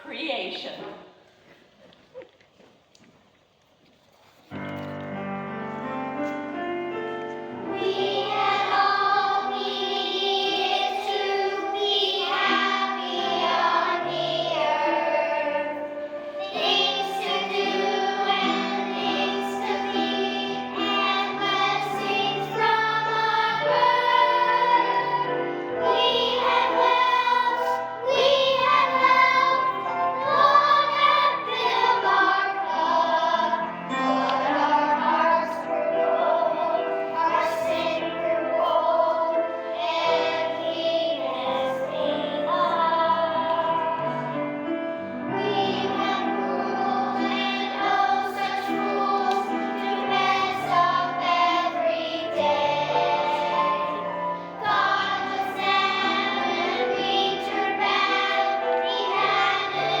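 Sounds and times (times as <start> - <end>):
children's choir singing: 5.8 - 60.0.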